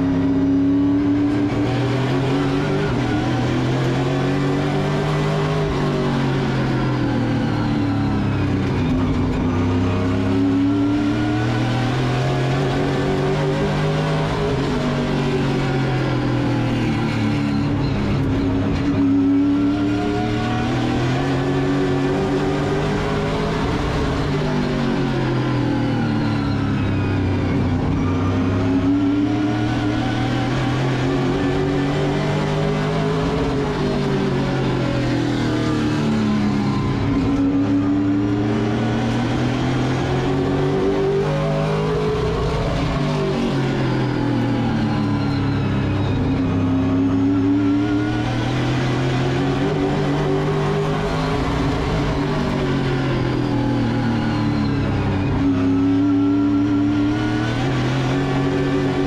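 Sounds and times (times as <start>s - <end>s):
race car engines at speed: 0.0s - 59.0s.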